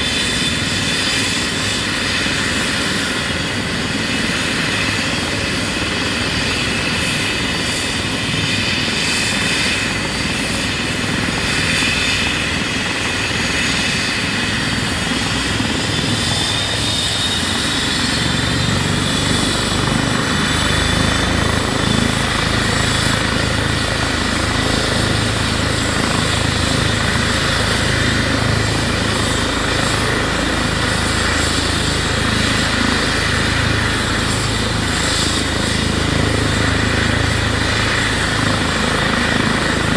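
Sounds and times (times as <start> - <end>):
helicopter rotor beat: 0.0 - 39.9
turboshaft engine whine: 0.0 - 39.9.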